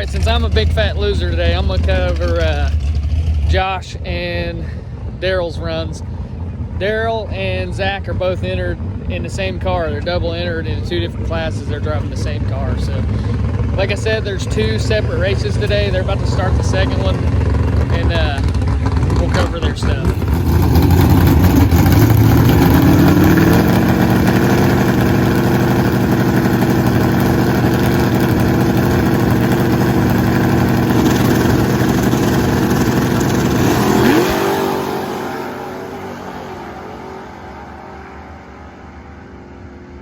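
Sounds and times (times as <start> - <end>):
drag racing car engine full throttle: 0.0 - 40.0.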